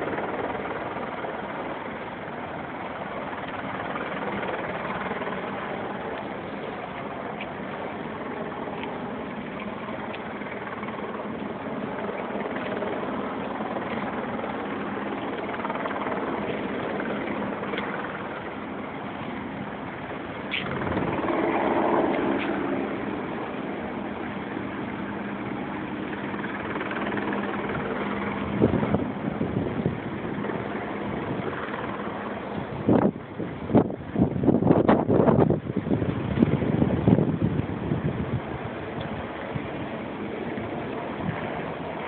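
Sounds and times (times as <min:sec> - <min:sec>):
outdoor street noise: 0:00.0 - 0:42.0.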